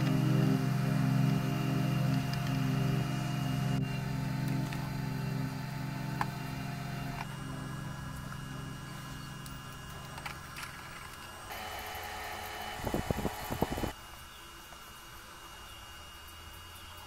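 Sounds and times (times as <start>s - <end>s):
small electric motor running: 0.0s - 14.0s.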